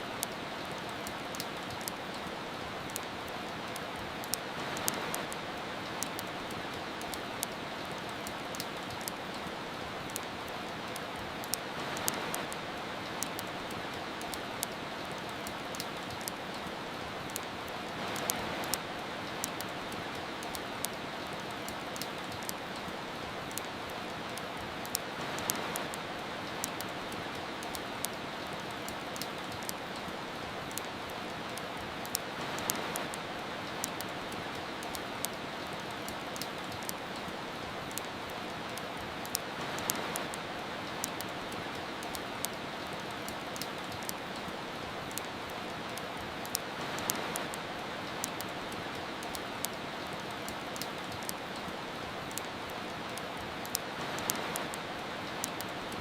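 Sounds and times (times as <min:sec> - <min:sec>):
steady rain hiss: 0:00.0 - 0:56.0
wood fire crackling: 0:00.0 - 0:56.0.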